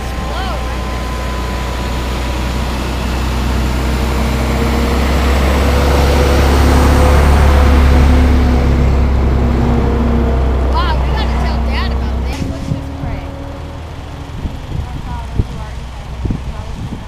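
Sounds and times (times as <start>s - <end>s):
heavy vehicle engine humming: 0.0s - 17.0s.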